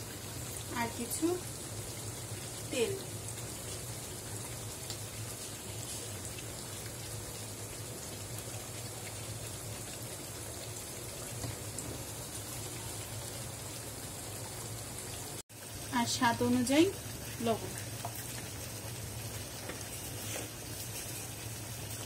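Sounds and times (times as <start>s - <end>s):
water simmering: 0.0s - 22.0s.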